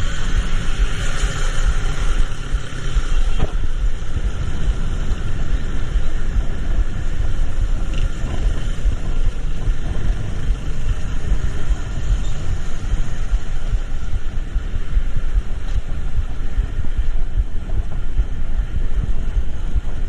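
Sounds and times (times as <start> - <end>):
low vehicle rumble: 0.0 - 20.0.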